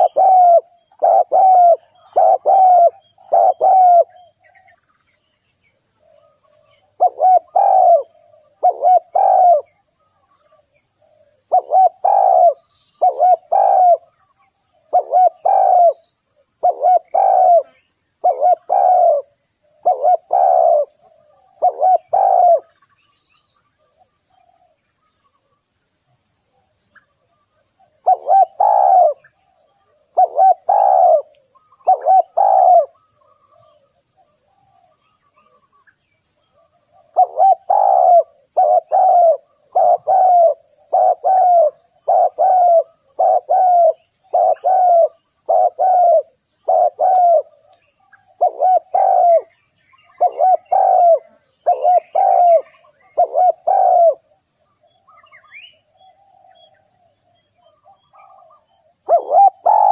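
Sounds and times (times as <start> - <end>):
dove cooing: 0.0 - 4.7, 6.0 - 9.8, 10.5 - 14.2, 14.8 - 16.0, 16.6 - 22.9, 27.8 - 35.7, 36.6 - 55.2, 56.0 - 59.9.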